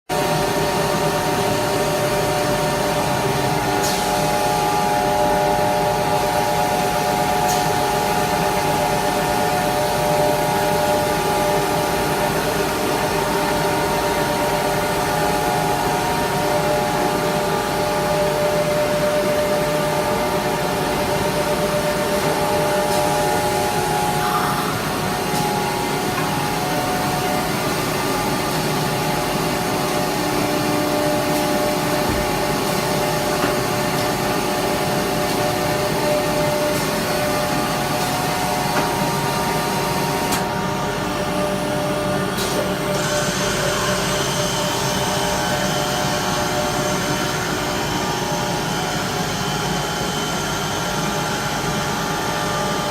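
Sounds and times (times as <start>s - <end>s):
cnc router whirring: 0.1s - 52.9s.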